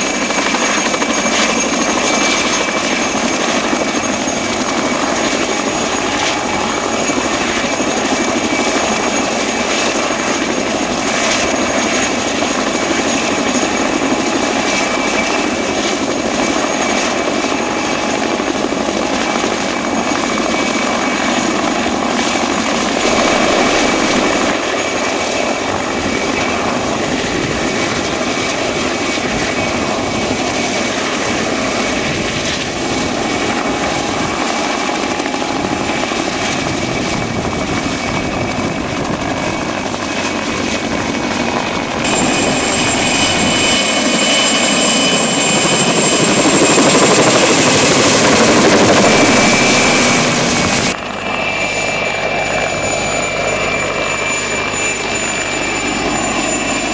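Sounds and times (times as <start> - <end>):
helicopter engine whine: 0.0 - 56.9
helicopter rotor noise: 0.0 - 56.9.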